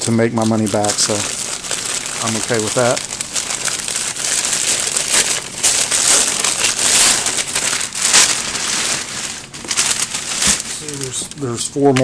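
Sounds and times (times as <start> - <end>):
paper packing crinkling: 0.0 - 12.0.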